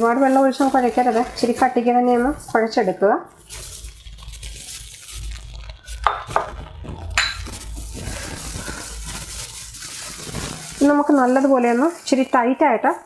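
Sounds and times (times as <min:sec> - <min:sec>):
gloved hand kneading dough: 0:00.0 - 0:13.0.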